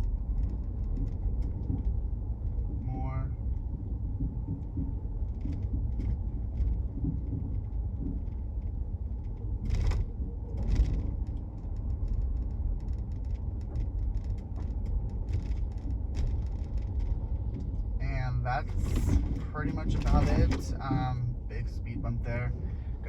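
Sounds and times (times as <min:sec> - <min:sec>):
low road rumble: 0:00.0 - 0:23.0.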